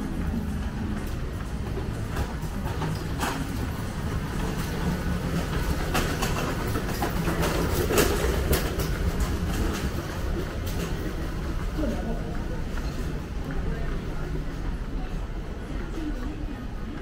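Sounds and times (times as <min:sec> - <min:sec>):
train rumbling overhead: 0:00.0 - 0:17.0.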